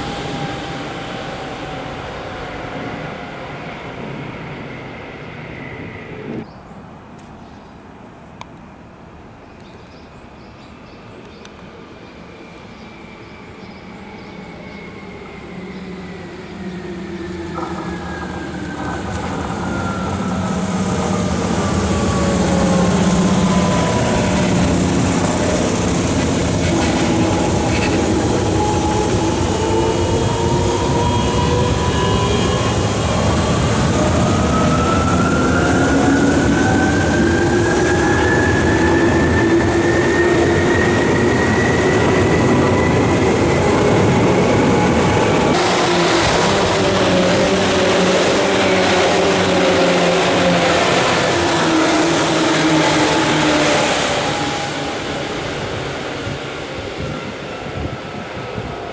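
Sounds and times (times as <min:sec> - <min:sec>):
electric train motor whine: 0:00.0 - 0:06.5, 0:12.9 - 0:58.8
train rumble: 0:00.0 - 0:06.5, 0:13.2 - 0:58.9.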